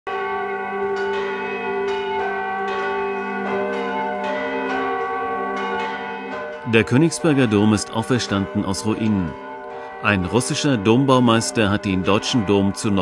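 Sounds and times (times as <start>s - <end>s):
church bells ringing: 0.1s - 13.0s.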